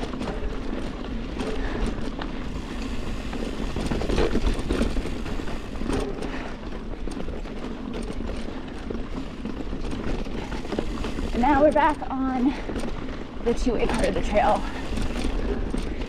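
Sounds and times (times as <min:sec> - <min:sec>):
bike chain rattling: 0:00.0 - 0:16.0
bike tyres crunching over dirt: 0:00.0 - 0:16.0.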